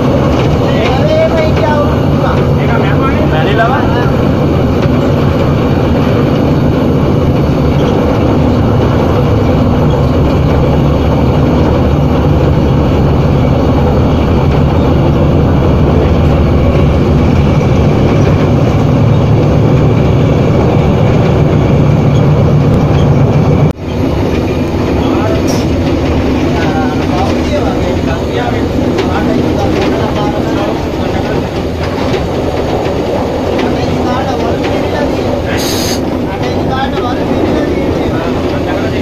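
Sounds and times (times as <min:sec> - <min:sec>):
locomotive engine drone: 0:00.0 - 0:39.0
wheel and rail noise: 0:00.0 - 0:39.0.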